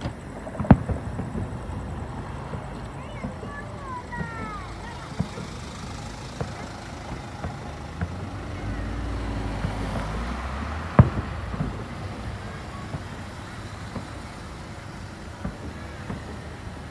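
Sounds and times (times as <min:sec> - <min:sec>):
distant fireworks thuds: 0:00.0 - 0:16.9
passing vehicle rumble: 0:00.0 - 0:16.9
sharp firework bang: 0:00.0 - 0:16.9.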